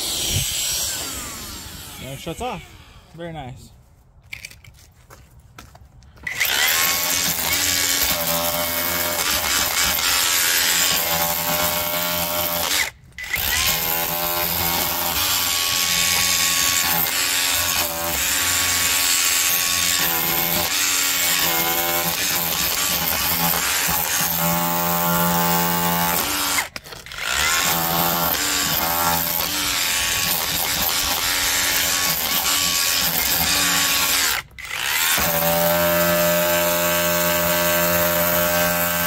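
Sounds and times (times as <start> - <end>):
rotary hammer chiselling concrete: 6.3 - 39.0.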